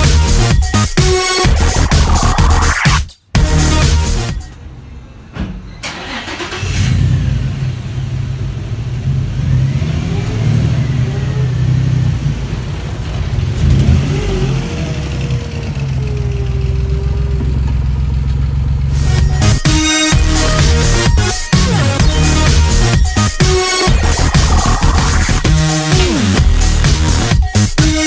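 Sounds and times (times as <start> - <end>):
car engine rumbling: 1.4 - 4.2, 5.8 - 27.3.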